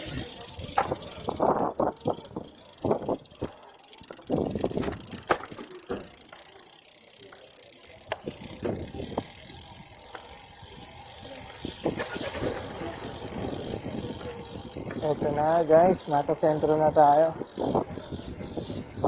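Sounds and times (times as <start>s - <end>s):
bicycle rolling noise: 0.0s - 19.0s
bike rattling over bumps: 0.0s - 19.0s.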